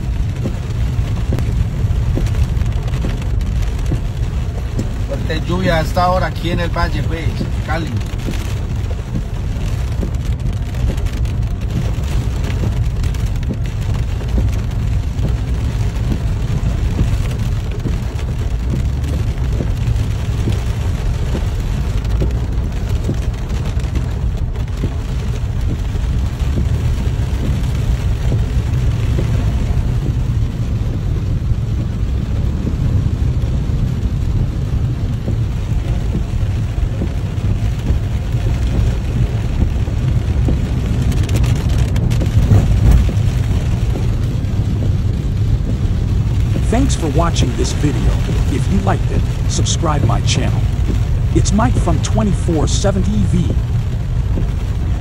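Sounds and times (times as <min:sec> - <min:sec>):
deep rumble: 0:00.0 - 0:55.0
heavy rain on a car roof: 0:00.0 - 0:55.0.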